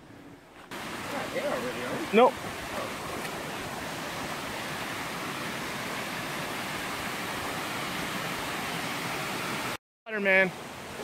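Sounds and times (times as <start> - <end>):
water rushing over a weir: 0.6 - 11.0.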